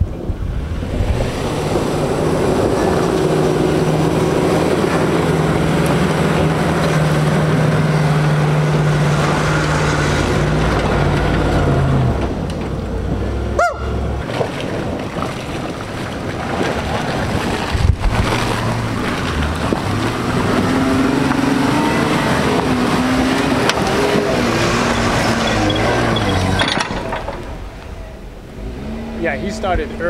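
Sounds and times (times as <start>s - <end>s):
wind noise on microphone: 0.0s - 28.1s
suv engines running: 0.0s - 30.0s.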